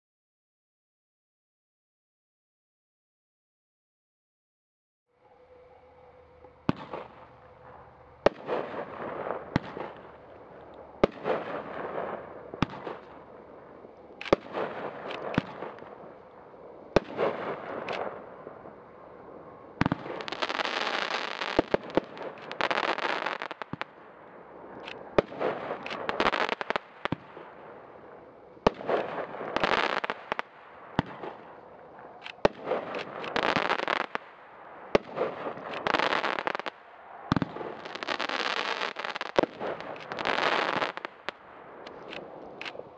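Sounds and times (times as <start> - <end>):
firework crackling: 6.4 - 42.9.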